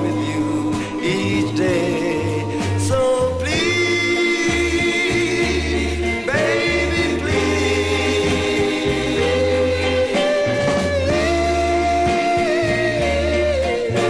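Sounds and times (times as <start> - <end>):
slow soul ballad: 0.0 - 14.0
voices singing long notes: 0.0 - 14.0.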